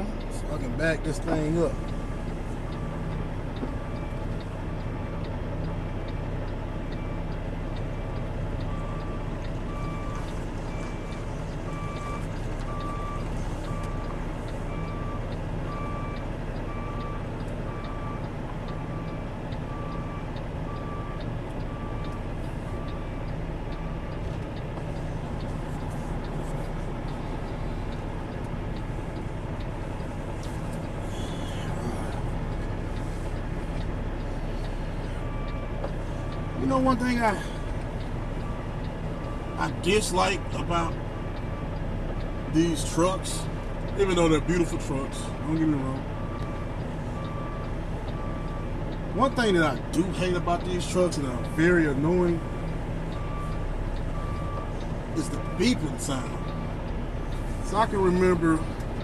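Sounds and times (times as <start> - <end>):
diesel engine running: 0.0 - 59.0
truck reversing alarm beeping: 0.0 - 59.0.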